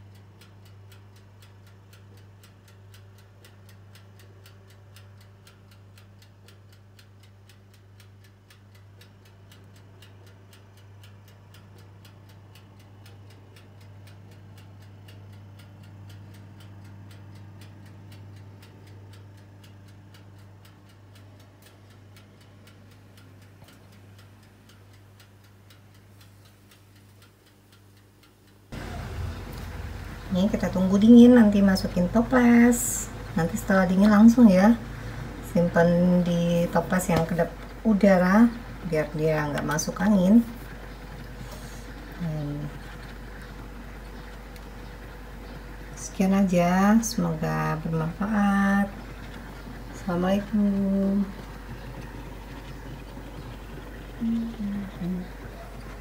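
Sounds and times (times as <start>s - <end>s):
low steady hum: 0.0s - 56.0s
oven timer ticking: 0.0s - 56.0s.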